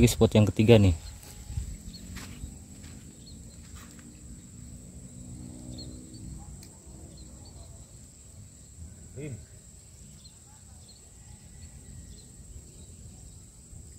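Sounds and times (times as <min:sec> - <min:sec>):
high-pitched insect drone: 0:00.0 - 0:13.9
faint bird chirps: 0:00.4 - 0:13.9.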